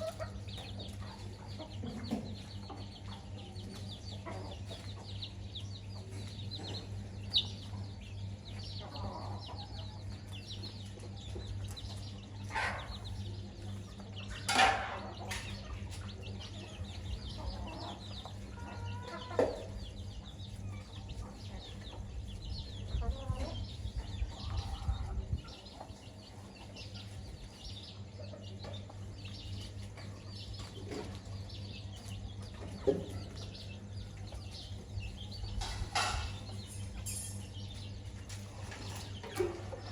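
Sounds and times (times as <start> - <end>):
chickens clucking: 0.0 - 39.9
steady low hum: 0.0 - 39.9.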